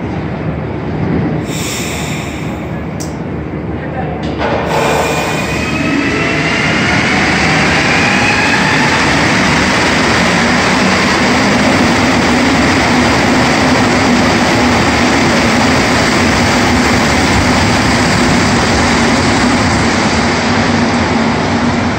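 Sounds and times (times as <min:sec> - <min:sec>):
train cars rushing past: 0:00.0 - 0:21.9.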